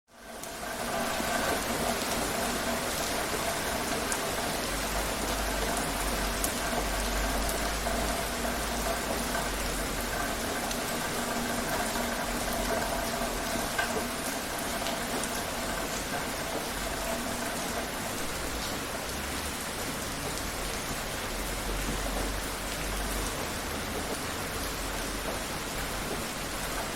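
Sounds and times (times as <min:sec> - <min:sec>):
steady rain falling: 0:00.1 - 0:26.9.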